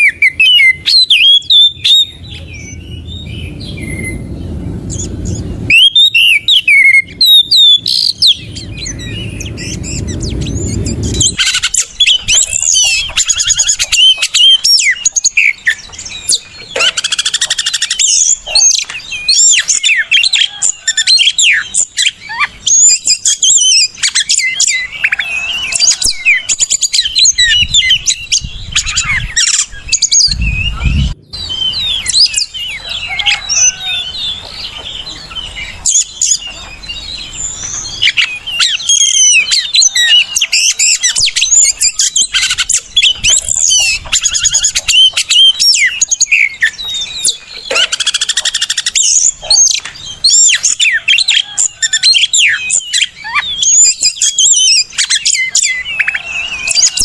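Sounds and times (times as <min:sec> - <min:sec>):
low rumbling noise: 0:00.0 - 0:22.7, 0:24.6 - 0:47.7
bird singing whistled trills: 0:00.0 - 0:57.0.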